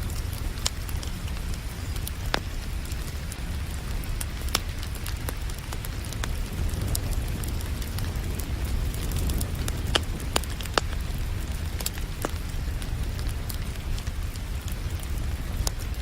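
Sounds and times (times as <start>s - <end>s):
low continuous rumble: 0.0s - 16.0s
steady rain: 0.0s - 16.0s
wood fire crackling: 0.0s - 16.0s.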